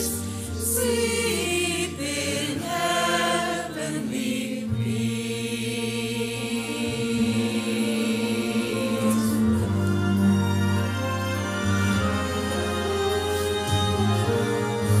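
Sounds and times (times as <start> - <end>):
mixed choir singing chords: 0.0 - 15.0.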